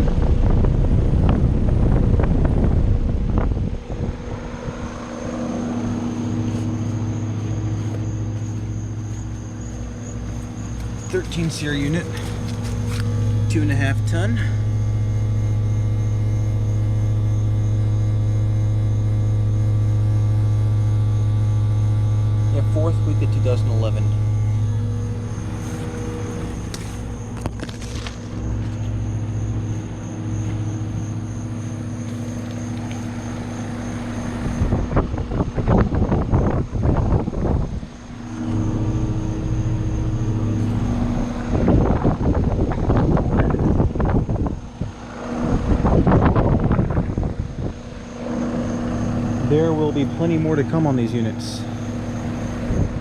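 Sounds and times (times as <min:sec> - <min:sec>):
wind noise on microphone: 0:00.0 - 0:20.2, 0:24.0 - 0:49.6, 0:51.8 - 0:53.0
air conditioning unit humming: 0:00.0 - 0:53.0.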